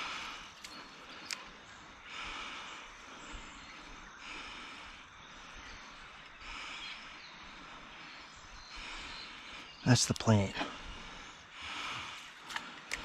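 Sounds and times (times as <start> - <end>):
person breathing hard: 0.0 - 9.8, 10.6 - 13.0.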